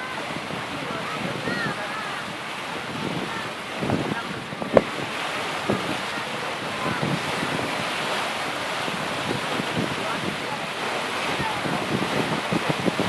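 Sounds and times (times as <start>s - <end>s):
sea water washing: 0.0s - 13.0s
wind buffeting microphone: 0.0s - 13.0s.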